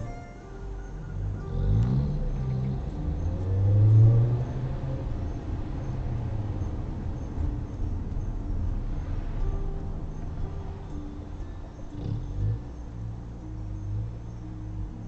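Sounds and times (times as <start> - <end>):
car engine accelerating: 0.0 - 15.0
low road rumble: 0.0 - 15.0.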